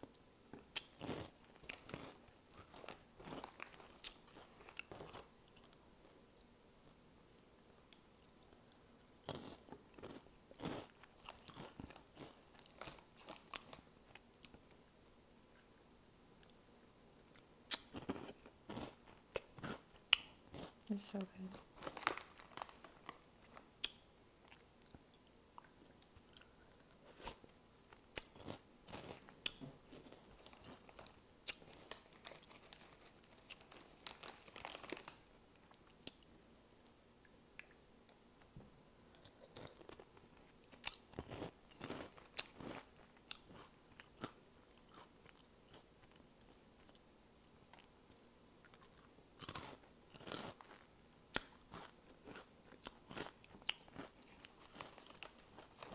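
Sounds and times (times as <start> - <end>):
crunching and chewing snacks: 0.5 - 7.0, 8.2 - 14.7, 16.4 - 36.4, 39.1 - 55.9.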